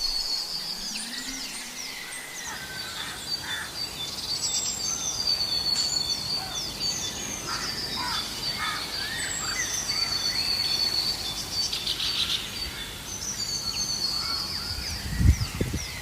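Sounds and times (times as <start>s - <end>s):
birds whistling and chirping: 0.0s - 16.0s.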